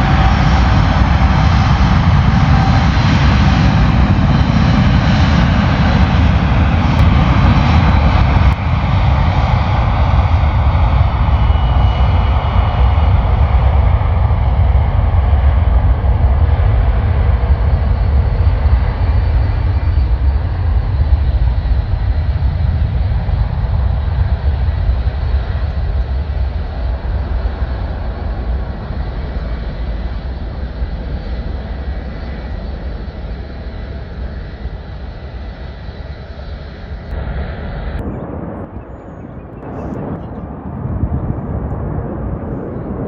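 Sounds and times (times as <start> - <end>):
jet engines rumbling: 0.0 - 43.0.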